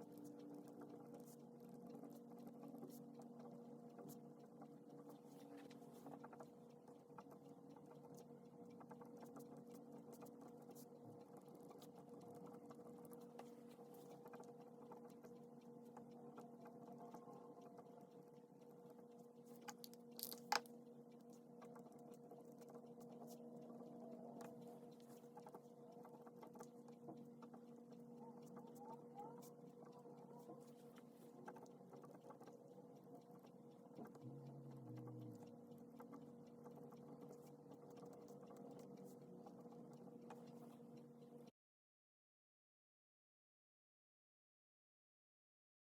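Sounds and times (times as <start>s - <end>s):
low electrical hum: 0.0s - 41.5s.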